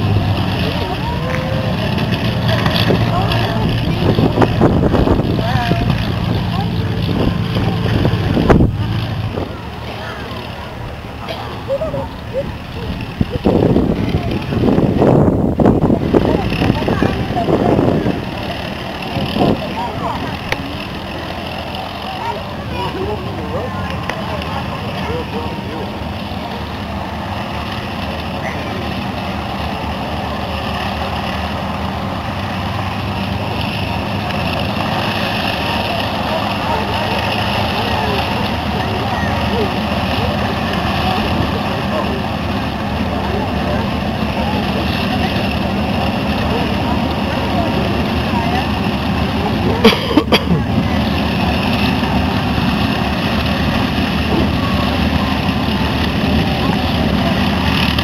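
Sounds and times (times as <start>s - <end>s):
propeller aircraft engines running: 0.0s - 58.0s.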